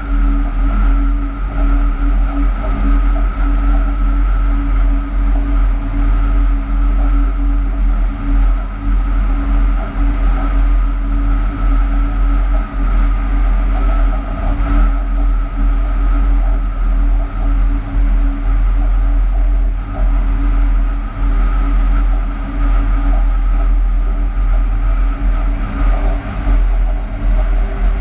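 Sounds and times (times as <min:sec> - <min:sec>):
electrical hum: 0:00.0 - 0:28.0
electrical whine: 0:00.0 - 0:28.0
locomotive running gear rumble: 0:00.0 - 0:28.0.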